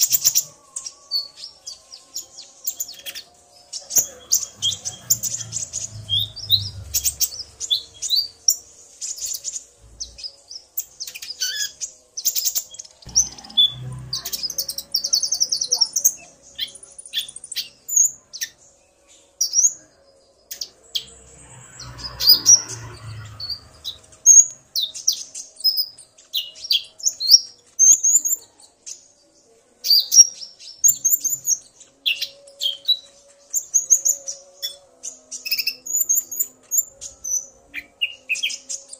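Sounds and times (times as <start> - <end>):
sunbirds chirping and trilling: 0.0 - 38.9.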